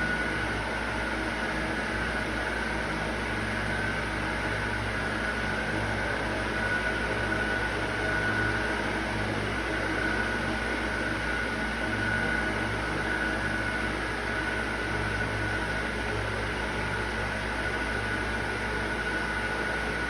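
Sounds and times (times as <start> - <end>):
faint high whine: 0.0 - 20.0
machine hum and hiss: 0.0 - 20.0.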